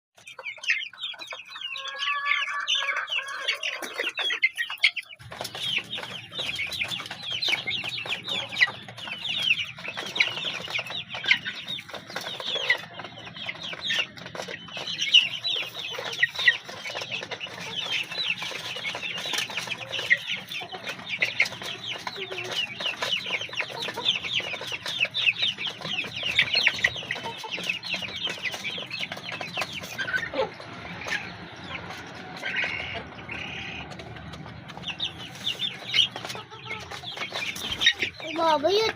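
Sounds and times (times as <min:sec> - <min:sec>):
chicks peeping and cheeping: 0:00.2 - 0:38.9.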